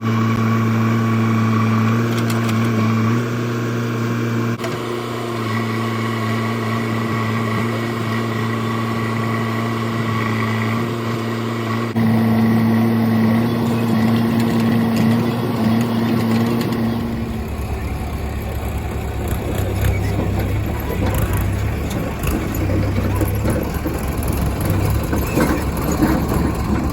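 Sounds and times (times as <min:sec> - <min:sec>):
diesel engines running: 0:00.0 - 0:26.9.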